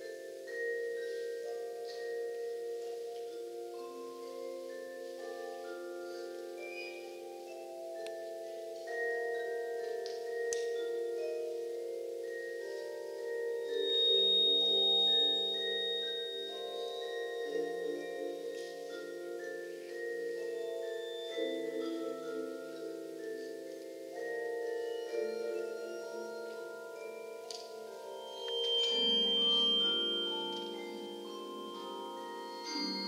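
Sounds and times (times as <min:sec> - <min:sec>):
marimbas and vibraphones playing chords: 0:00.0 - 0:33.0.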